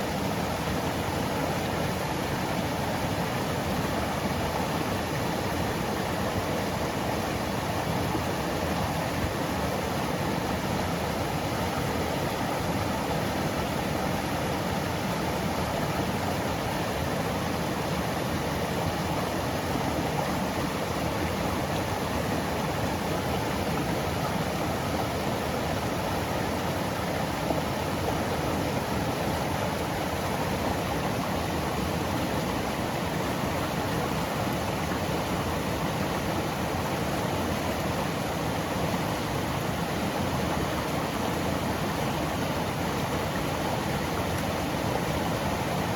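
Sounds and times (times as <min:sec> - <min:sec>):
stream flowing over rocks: 0:00.0 - 0:45.9.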